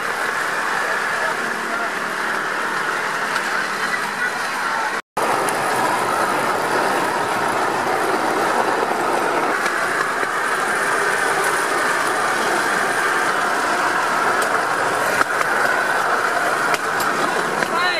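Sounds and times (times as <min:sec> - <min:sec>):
trolley wheels rolling on rails: 0:00.0 - 0:17.9.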